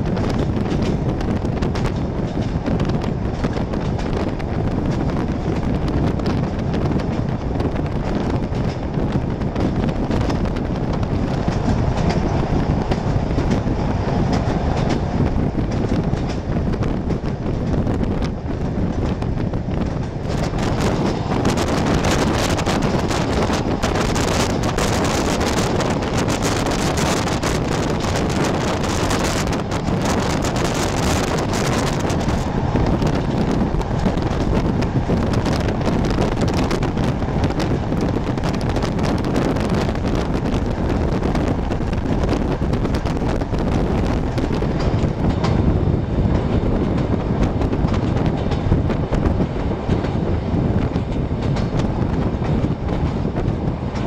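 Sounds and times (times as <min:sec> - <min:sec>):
moving train rumbling: 0:00.0 - 0:54.0
wind buffeting microphone: 0:00.0 - 0:54.0.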